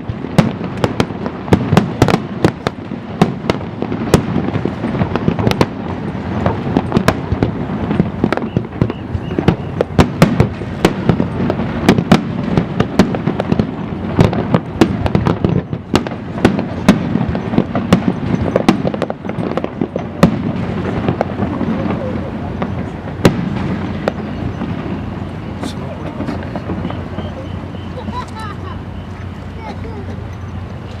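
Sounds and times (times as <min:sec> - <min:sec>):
fireworks bangs: 0:00.0 - 0:31.0
rumble and crackle of fireworks: 0:00.0 - 0:31.0.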